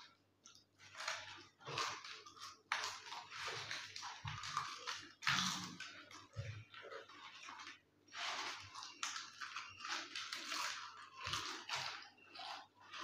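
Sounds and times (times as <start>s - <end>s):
potato chips crunching: 0.9s - 13.0s.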